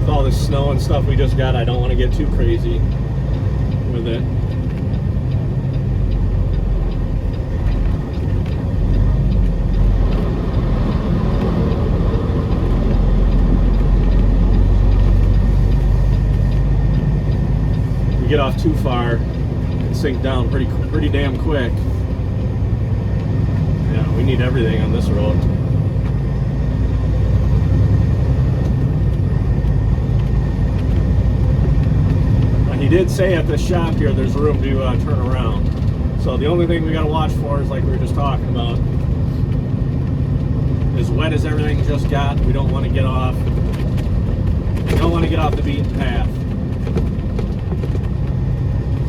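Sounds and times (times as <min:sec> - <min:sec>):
truck engine and road rumble: 0:00.0 - 0:49.0.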